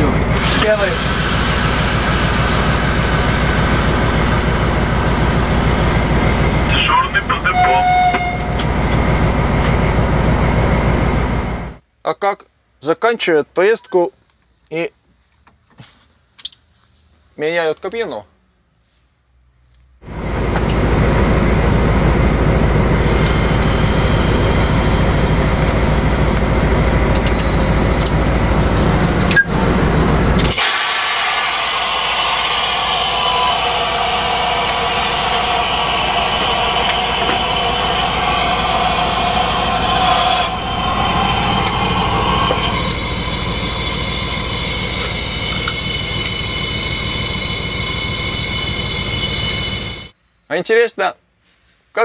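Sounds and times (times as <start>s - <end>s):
diesel locomotive engine rumble: 0.0s - 11.8s, 20.0s - 50.2s
hissy locomotive running noise: 0.0s - 11.8s, 20.1s - 50.2s.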